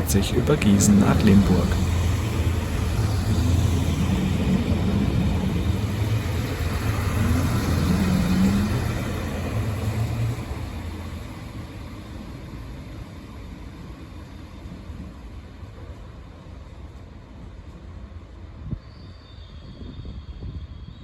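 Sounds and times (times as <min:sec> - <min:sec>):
diesel railcar engine humming: 0:00.0 - 0:18.7.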